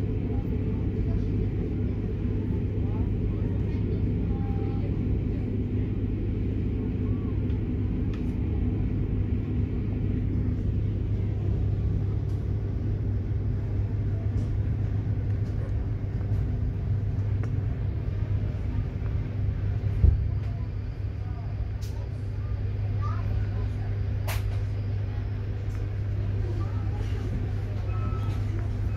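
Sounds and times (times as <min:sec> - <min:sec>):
faint steady hum: 0:00.0 - 0:28.9
rumble of wheels on track: 0:00.0 - 0:28.9.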